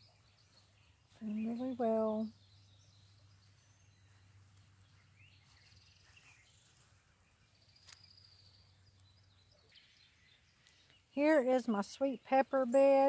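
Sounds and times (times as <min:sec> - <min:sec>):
distant bird chirps and trills: 0:00.0 - 0:13.0.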